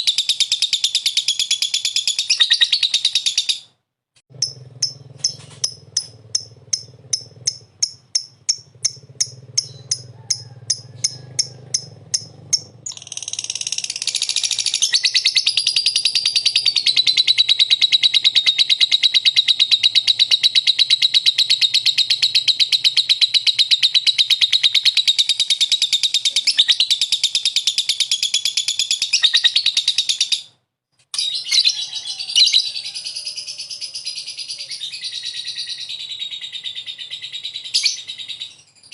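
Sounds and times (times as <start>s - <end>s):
lovebird chirping and chattering: 0.0s - 3.7s, 4.3s - 38.9s.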